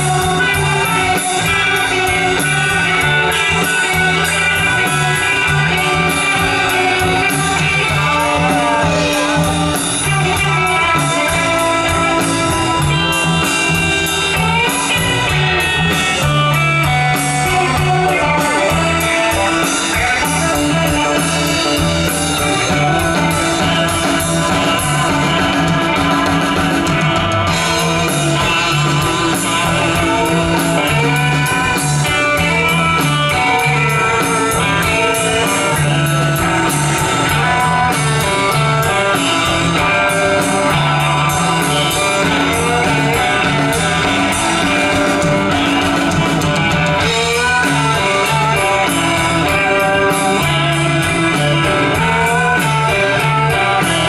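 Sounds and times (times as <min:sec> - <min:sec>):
lead guitar gliding notes: 0:00.0 - 0:54.0
rock band playing: 0:00.0 - 0:54.0.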